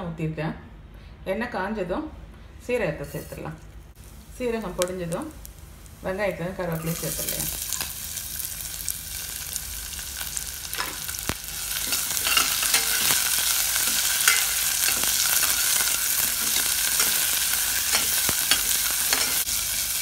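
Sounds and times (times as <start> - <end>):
food sizzling in hot oil: 3.2 - 20.0.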